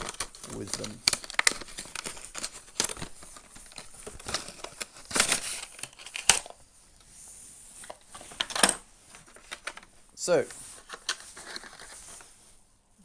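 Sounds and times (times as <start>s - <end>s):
plastic packaging crinkling: 0.0s - 6.7s, 7.8s - 12.5s.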